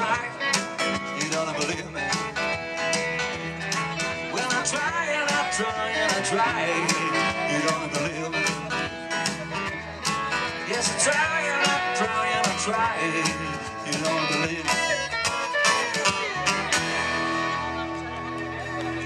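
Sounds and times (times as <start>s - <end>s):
live country band playing: 0.0s - 19.0s.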